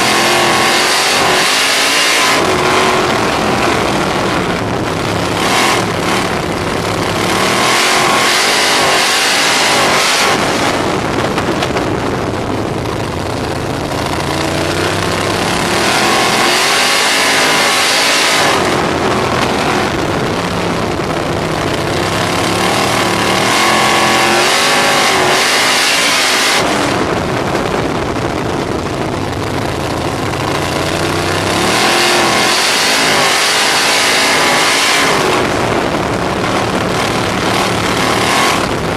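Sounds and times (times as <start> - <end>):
race car engine revving: 0.0 - 38.9
wind rush: 0.0 - 38.9.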